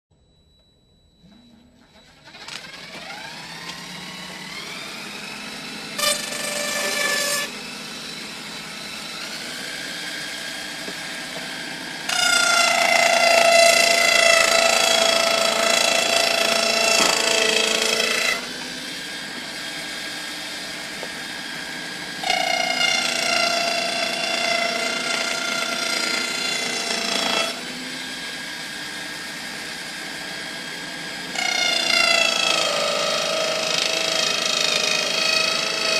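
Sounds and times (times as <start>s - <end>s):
toy table saw motor whining: 1.2s - 35.9s.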